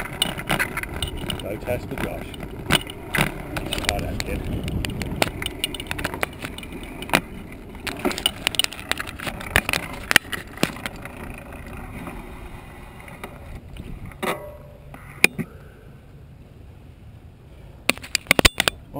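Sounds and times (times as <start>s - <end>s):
bicycle rolling on pavement: 0.0s - 15.2s
bike rattles and clicks: 0.0s - 15.5s, 17.9s - 18.9s.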